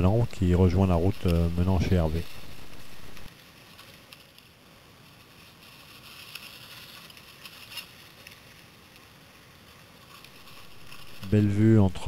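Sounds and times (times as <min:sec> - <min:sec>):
bike tyres on dry leaves: 0:00.0 - 0:12.0.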